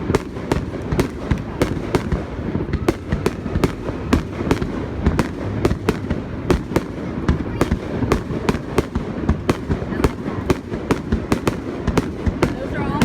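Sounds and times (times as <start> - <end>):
fireworks bangs: 0.0 - 13.0
low rumble of bursts: 0.0 - 13.0.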